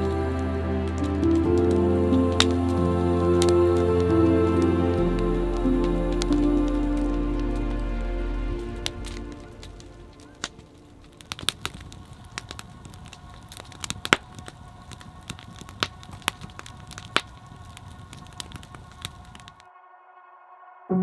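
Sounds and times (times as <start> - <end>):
campfire crackling and popping: 0.0 - 19.6.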